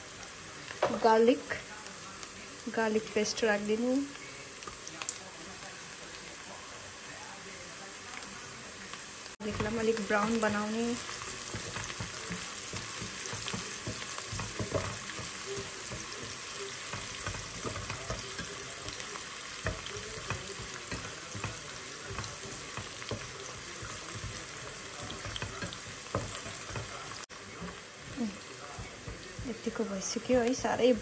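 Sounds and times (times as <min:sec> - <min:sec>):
onions frying in hot oil: 0:00.0 - 0:31.0.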